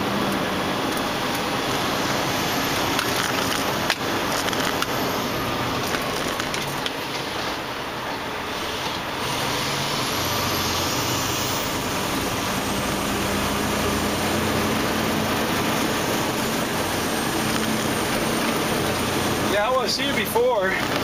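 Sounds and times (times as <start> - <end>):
road noise: 0.0 - 21.0
truck engine drone: 0.0 - 21.0.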